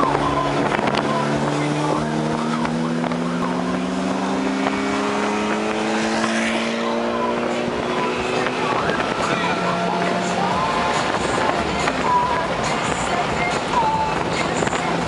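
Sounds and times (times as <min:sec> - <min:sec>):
car engine at full throttle: 0:00.0 - 0:15.0
wind and road noise: 0:00.0 - 0:15.0.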